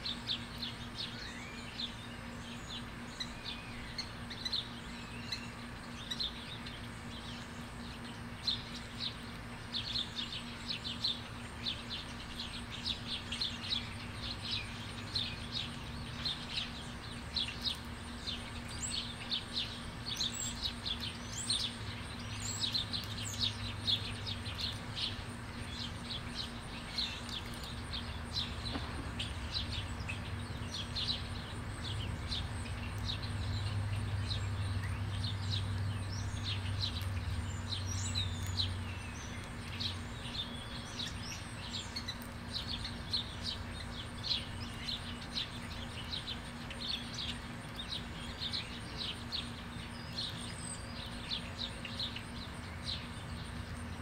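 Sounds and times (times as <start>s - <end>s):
small birds chirping: 0.0s - 54.0s
steady low hum: 0.0s - 54.0s.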